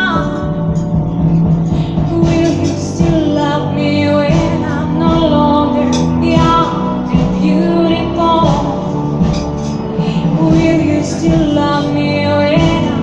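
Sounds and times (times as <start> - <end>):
instrumental accompaniment: 0.0 - 13.0
woman singing: 0.0 - 13.0.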